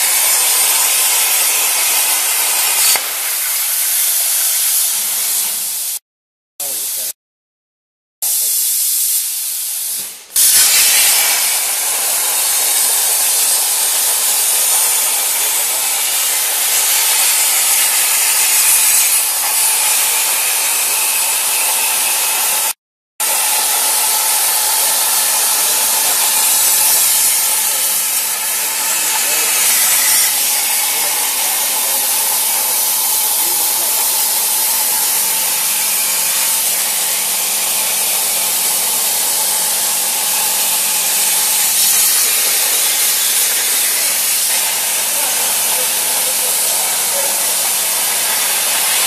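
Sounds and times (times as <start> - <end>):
plasma torch hissing: 0.0 - 6.0, 6.6 - 7.2, 8.2 - 49.0.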